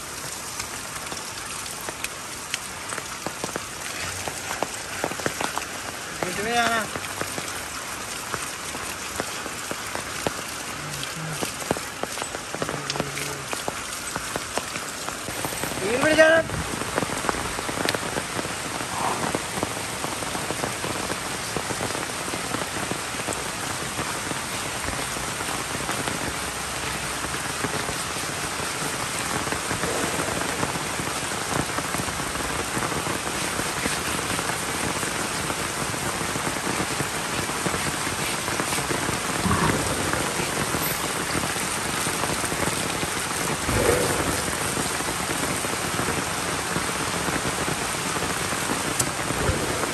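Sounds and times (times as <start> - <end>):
rain pattering on ground: 0.0 - 49.9.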